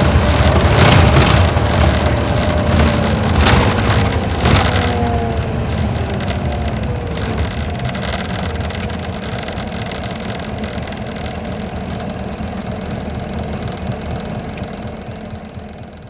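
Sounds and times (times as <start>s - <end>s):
bus diesel engine drone: 0.0s - 16.0s
road noise: 0.0s - 16.0s.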